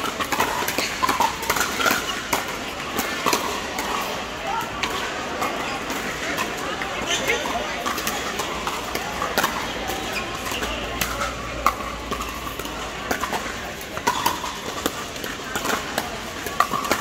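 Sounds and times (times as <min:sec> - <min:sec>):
hubbub of voices: 0:00.0 - 0:17.0
paddles hitting plastic balls: 0:00.0 - 0:17.0.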